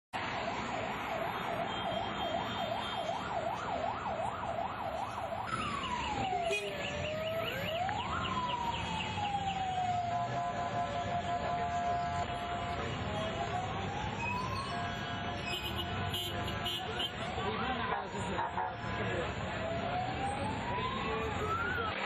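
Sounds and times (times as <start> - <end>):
street traffic noise: 0.1 - 22.0
emergency siren yelp and wail: 0.2 - 22.0.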